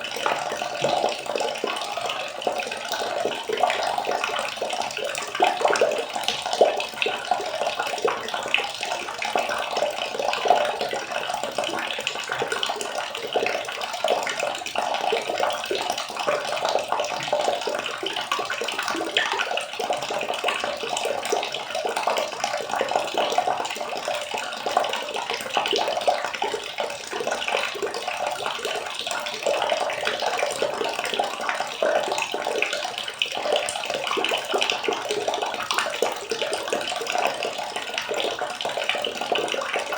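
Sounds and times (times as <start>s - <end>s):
water running and splashing: 0.0s - 39.9s.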